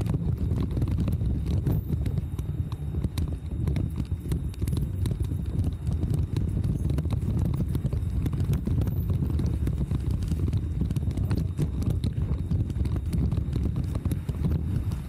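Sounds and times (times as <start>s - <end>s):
bicycle rolling over paving stones: 0.0s - 15.0s
tractor and lorry engines: 0.0s - 15.0s.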